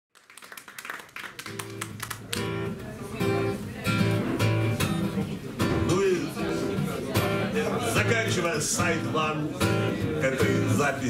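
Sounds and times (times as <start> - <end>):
acoustic guitar strumming chords: 1.5 - 11.0.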